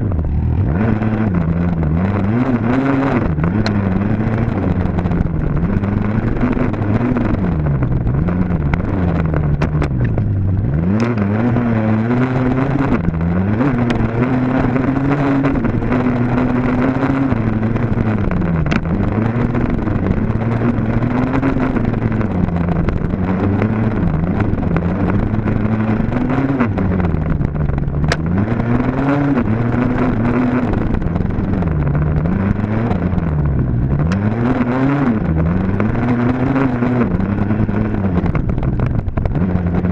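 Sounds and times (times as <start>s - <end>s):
dirt bike engine revving: 0.0s - 33.3s, 33.9s - 38.5s.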